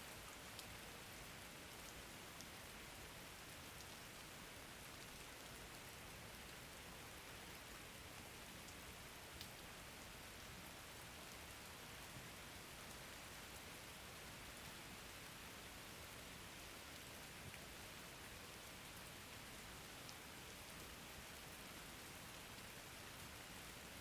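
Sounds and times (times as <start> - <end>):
faint steady rain: 0.0 - 24.0.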